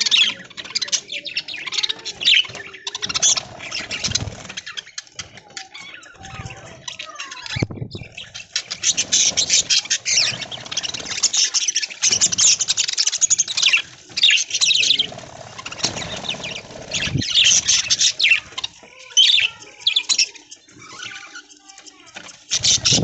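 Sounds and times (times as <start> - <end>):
budgerigars chirping and chattering: 0.0 - 23.0.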